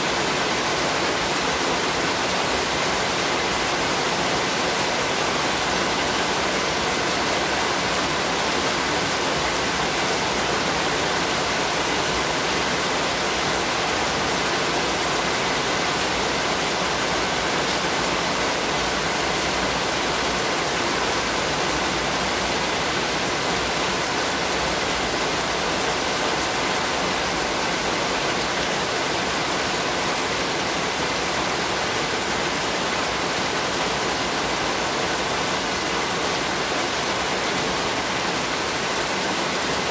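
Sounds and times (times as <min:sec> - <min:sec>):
heavy rain on hard ground: 0:00.0 - 0:39.9.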